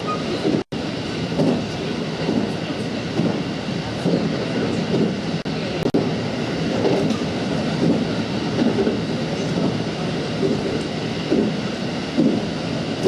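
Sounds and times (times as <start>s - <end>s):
rhythmic rail clatter: 0.0s - 13.0s
train wheels rumbling on rail: 0.0s - 13.0s.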